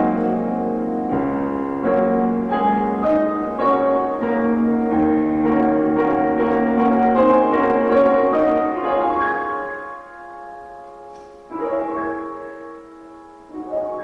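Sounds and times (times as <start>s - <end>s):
slow solo piano piece: 0.0s - 14.0s.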